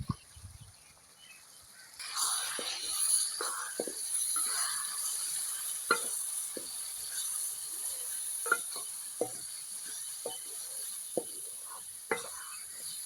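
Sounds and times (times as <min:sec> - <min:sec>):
meat sizzling in a pan: 0:01.7 - 0:13.0
metal spoon scraping a pan: 0:02.0 - 0:13.0.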